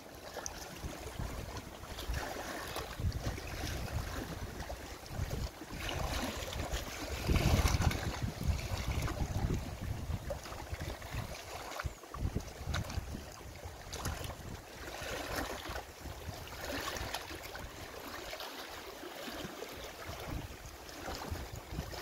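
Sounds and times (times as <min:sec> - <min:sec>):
waves splashing against rocks: 0:00.1 - 0:18.8
wind rumbling on microphone: 0:00.6 - 0:18.3, 0:20.0 - 0:22.0.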